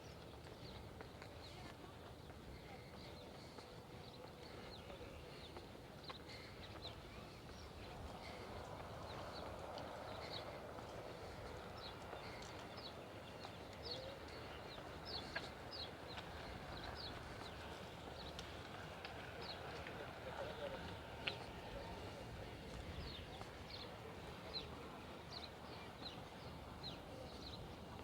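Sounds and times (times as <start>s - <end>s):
faint steady background noise: 0.0s - 28.0s.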